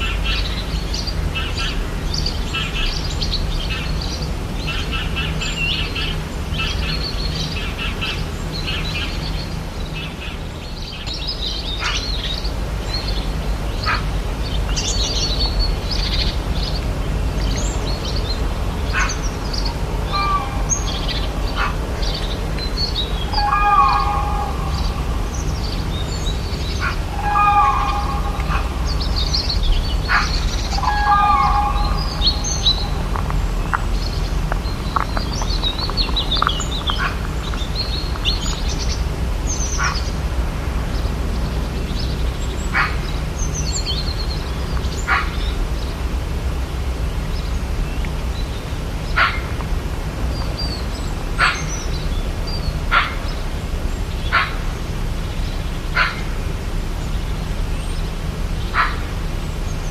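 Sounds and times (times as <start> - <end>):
birds chirping and calling: 0.0 - 46.1, 46.8 - 59.9
steady low rumble: 0.0 - 59.9.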